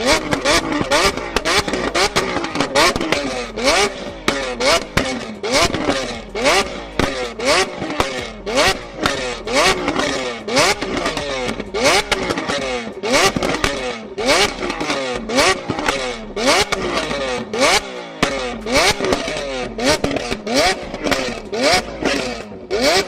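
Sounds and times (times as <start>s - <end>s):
engine revving: 0.0s - 23.0s
exhaust pops and crackles: 0.0s - 23.0s.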